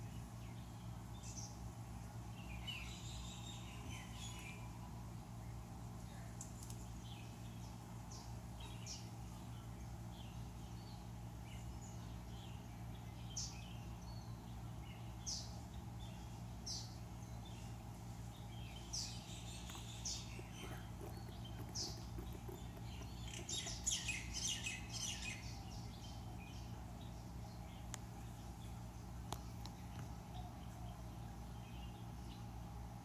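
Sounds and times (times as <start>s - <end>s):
low background hum: 0.0s - 33.0s
small birds chirping: 0.0s - 33.0s.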